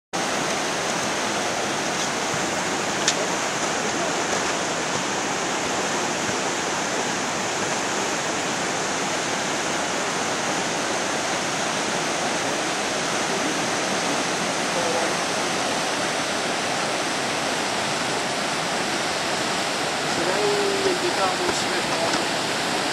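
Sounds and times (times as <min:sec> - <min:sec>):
river rushing over rapids: 0:00.2 - 0:22.9.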